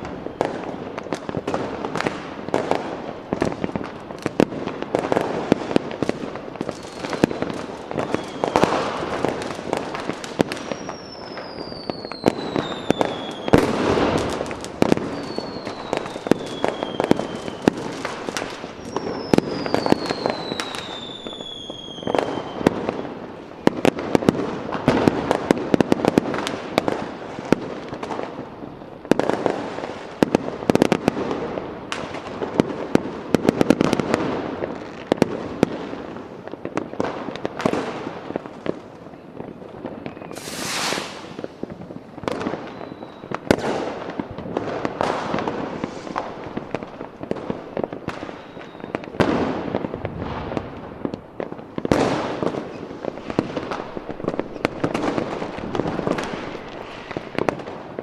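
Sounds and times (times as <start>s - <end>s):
fireworks crackling and banging: 0.0s - 58.0s
whistling fireworks: 0.0s - 58.0s.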